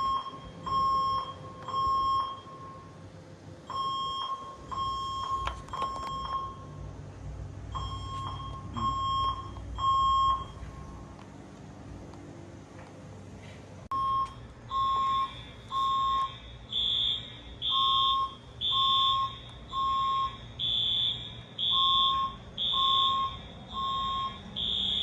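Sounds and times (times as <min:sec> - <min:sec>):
fire alarm horn beeps: 0:00.0 - 0:03.0, 0:03.7 - 0:06.8, 0:07.7 - 0:10.9, 0:13.9 - 0:25.0
lower alarm tone: 0:00.0 - 0:03.1, 0:03.7 - 0:06.9, 0:07.7 - 0:11.0, 0:13.9 - 0:25.0.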